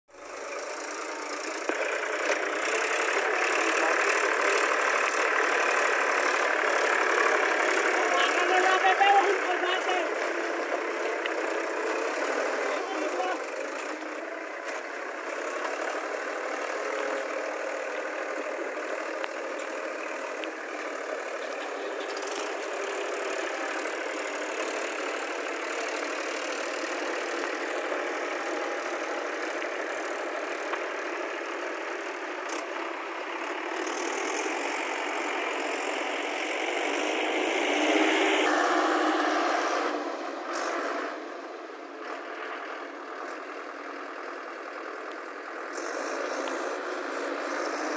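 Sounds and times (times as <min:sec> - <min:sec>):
tractor engine under load: 0:00.1 - 0:47.9.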